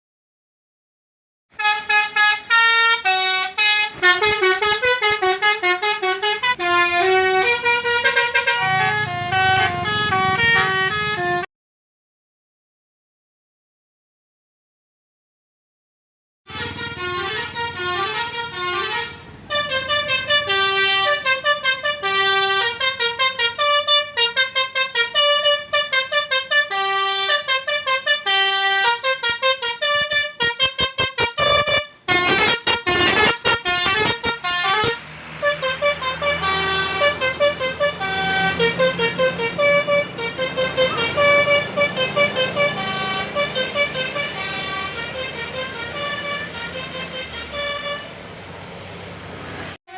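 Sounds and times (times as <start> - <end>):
multi-tone bus horn melody: 1.5 - 11.5, 16.5 - 48.4.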